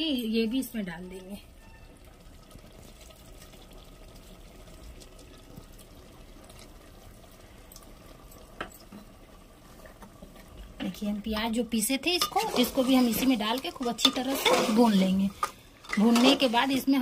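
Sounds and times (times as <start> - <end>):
meat sizzling in a pot: 0.6 - 17.0.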